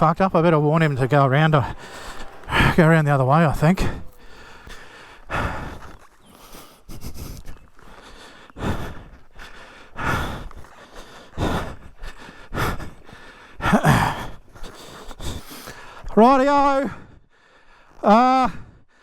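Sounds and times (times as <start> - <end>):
man breathing hard: 0.0 - 16.2, 16.8 - 19.0.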